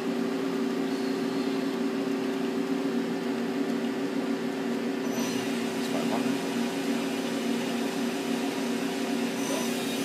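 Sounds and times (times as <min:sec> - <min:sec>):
lathe spindle humming: 0:00.0 - 0:10.0.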